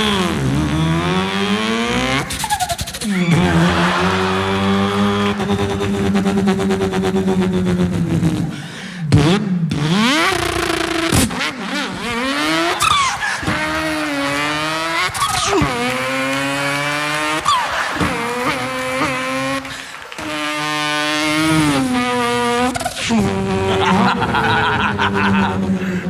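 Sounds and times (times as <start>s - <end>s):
boy imitating car engine: 0.0s - 26.0s.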